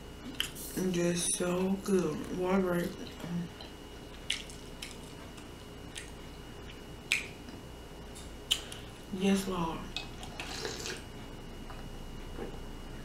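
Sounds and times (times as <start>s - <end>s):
faint high-pitched hum: 0.0s - 13.0s.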